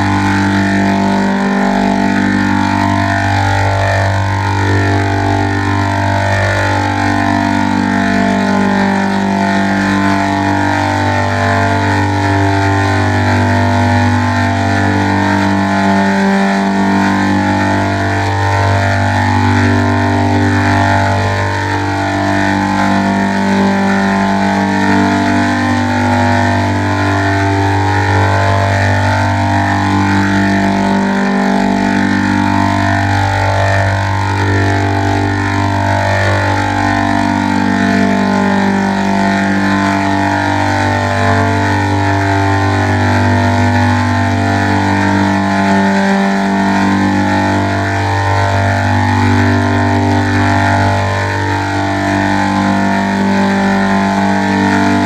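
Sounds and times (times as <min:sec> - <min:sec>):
melody over bass note: 0:00.0 - 0:55.0.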